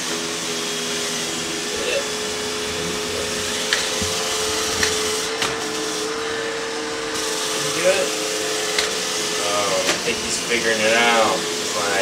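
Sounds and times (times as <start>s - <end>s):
robot vacuum whirring on tile: 0.0s - 12.0s.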